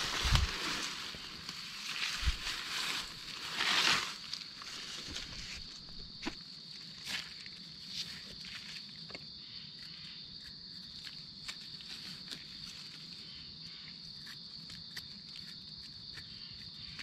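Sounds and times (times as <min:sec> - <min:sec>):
insect chirring: 0:00.0 - 0:17.0.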